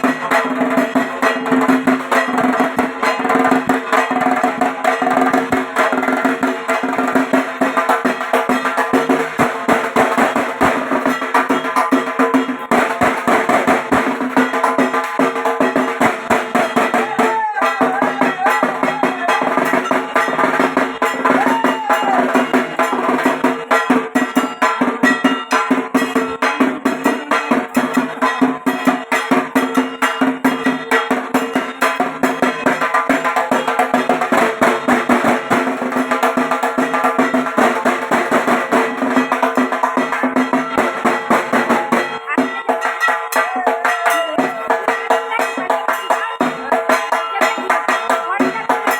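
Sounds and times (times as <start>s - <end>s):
barrel drum beaten with sticks: 0.0s - 48.9s.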